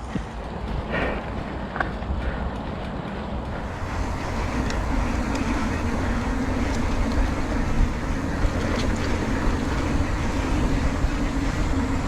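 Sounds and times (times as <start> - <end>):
motorcycle engine hum: 0.0 - 12.0
wind rushing on microphone: 0.0 - 12.0.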